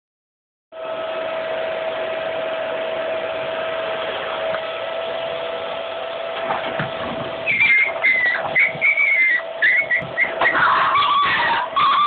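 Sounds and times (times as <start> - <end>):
vacuum cleaner running: 0.8 - 12.0.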